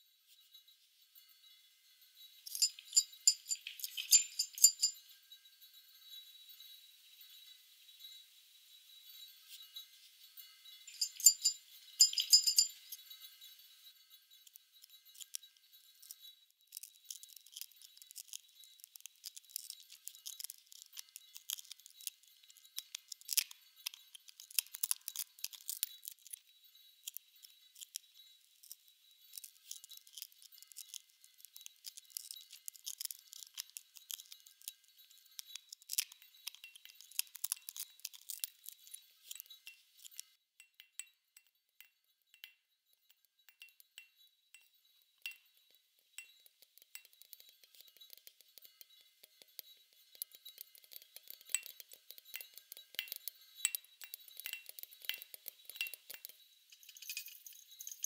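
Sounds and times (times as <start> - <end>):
glassy clicks and tinkling: 0.3 - 58.0.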